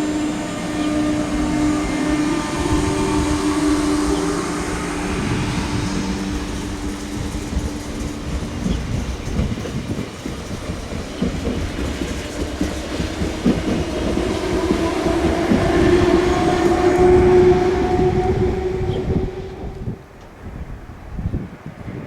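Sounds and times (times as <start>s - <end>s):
train wheels clattering: 0.0s - 20.4s
train whine: 0.0s - 21.8s.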